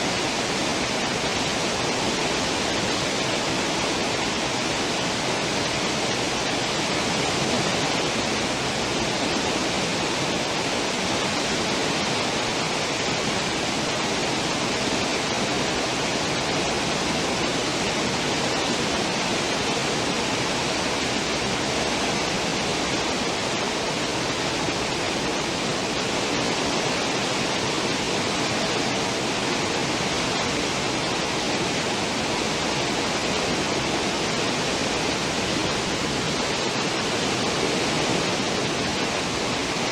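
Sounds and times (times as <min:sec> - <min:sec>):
churning water rushing: 0:00.0 - 0:39.9.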